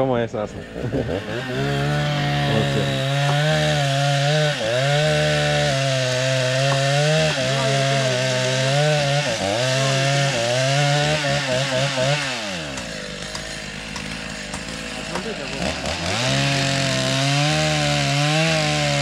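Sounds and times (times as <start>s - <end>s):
chainsaw cutting timber: 0.4s - 19.0s.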